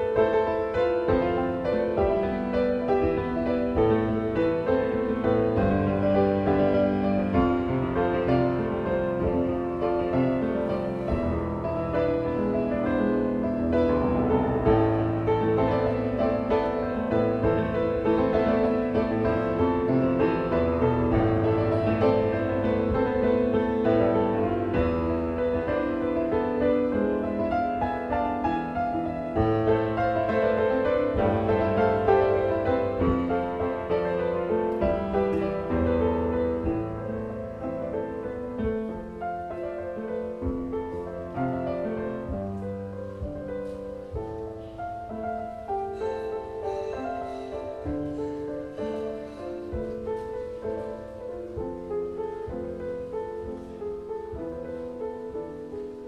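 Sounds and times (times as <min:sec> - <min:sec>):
solo grand piano: 0:00.0 - 0:56.0.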